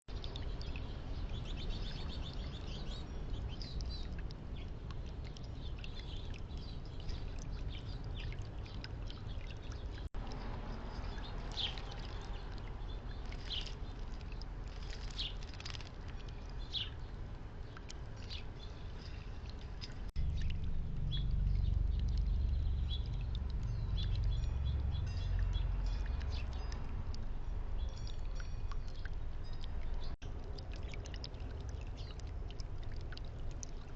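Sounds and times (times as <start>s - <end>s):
songbirds chirping: 0.1s - 33.9s
steady low rumble: 0.1s - 33.9s.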